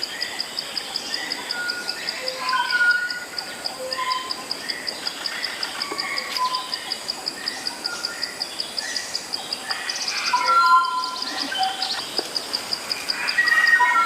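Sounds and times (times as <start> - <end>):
insect high chirping: 0.0 - 14.0.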